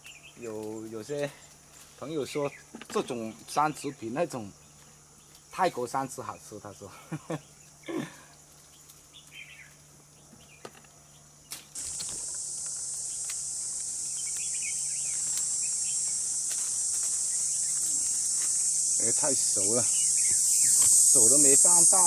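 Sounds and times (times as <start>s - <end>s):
insect buzzing: 0.0s - 22.0s.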